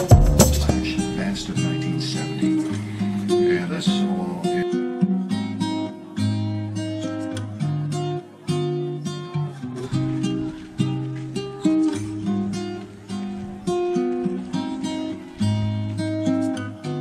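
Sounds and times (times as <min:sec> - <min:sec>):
strummed acoustic guitar music: 0:00.0 - 0:17.0.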